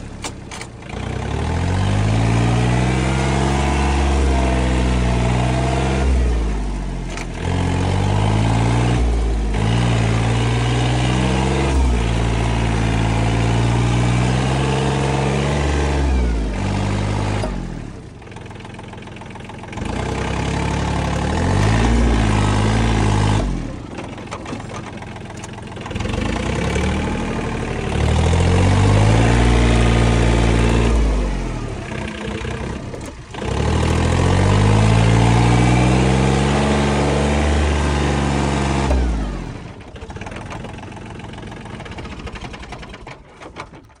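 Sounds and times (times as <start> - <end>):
tractor diesel engine revving: 0.0 - 44.0.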